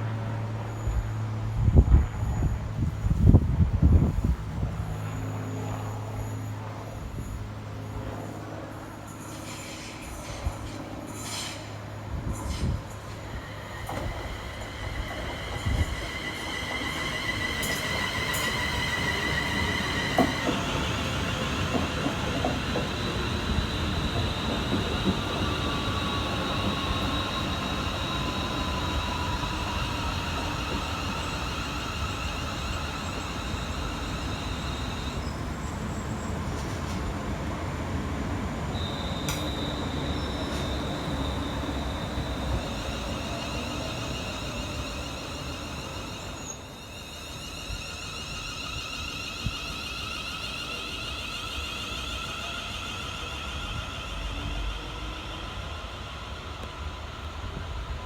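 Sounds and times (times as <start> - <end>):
train rumbling: 0.0 - 58.0
train wheels squealing: 0.0 - 58.0.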